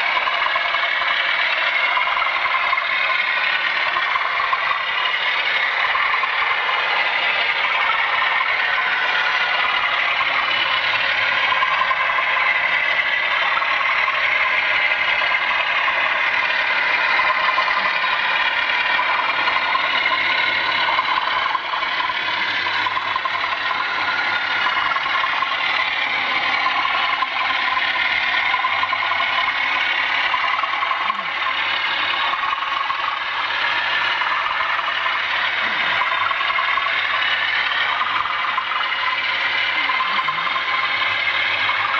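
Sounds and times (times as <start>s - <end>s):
model train wheels rattling: 0.0s - 41.9s.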